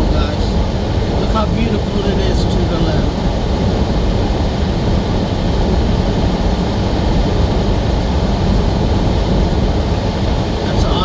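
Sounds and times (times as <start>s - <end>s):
truck engine and tyre rumble: 0.0s - 11.0s.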